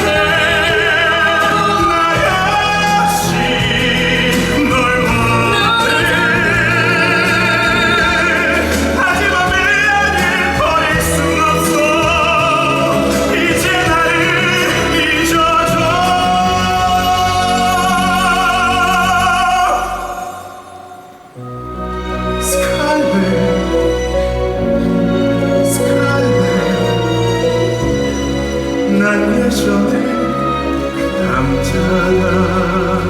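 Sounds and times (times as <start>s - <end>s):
new music: 0.0s - 33.0s
orchestral accompaniment: 0.0s - 33.0s
singer with wide vibrato: 0.0s - 33.0s.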